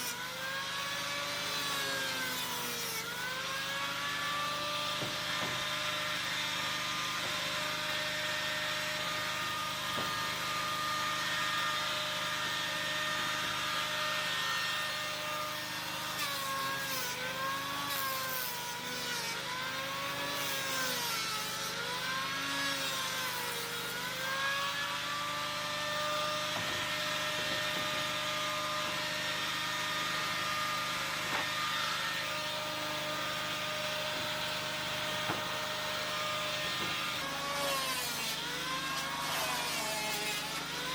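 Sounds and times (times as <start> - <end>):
power tool high whine: 0.0 - 40.9.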